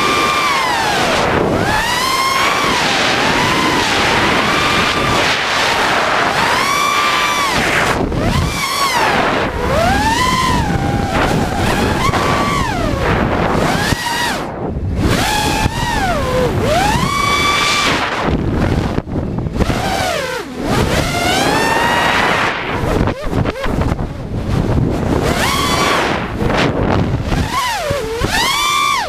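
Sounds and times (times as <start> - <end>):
quadcopter motors whining: 0.0 - 29.0
wind rushing over microphone: 0.0 - 29.0.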